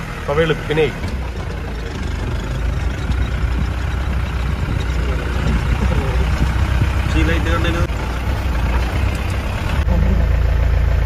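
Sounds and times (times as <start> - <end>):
jeep engine rumbling: 0.0 - 11.0.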